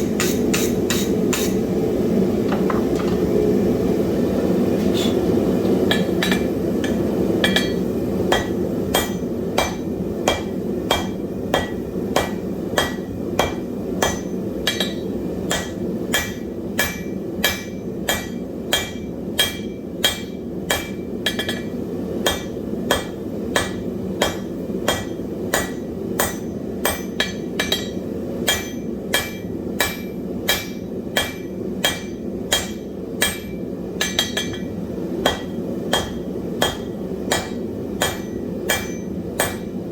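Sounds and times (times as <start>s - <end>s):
hammer ringing on anvil: 5.9s - 39.8s.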